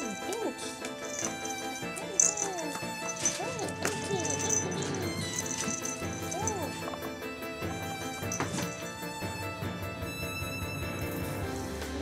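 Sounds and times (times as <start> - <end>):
background music with swooping notes: 0.0 - 12.0.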